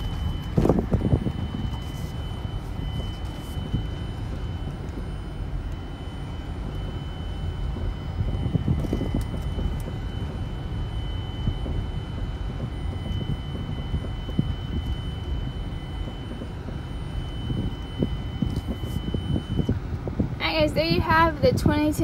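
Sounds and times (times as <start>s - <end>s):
car engine and tyre rumble: 0.0s - 21.9s.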